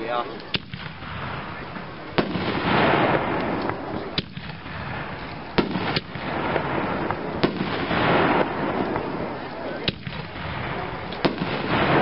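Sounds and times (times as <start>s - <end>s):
firework crackle: 0.0s - 12.0s
firework shells banging: 0.0s - 12.0s.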